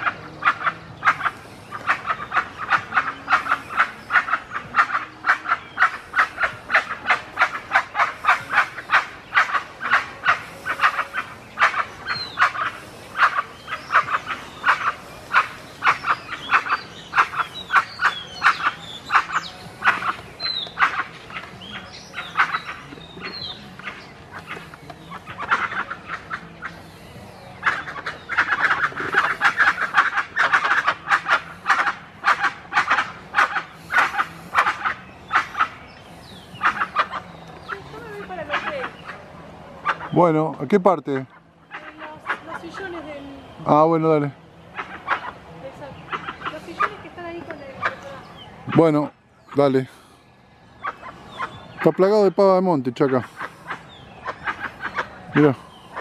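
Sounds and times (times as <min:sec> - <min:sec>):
birds calling in chorus: 0:00.0 - 0:56.0.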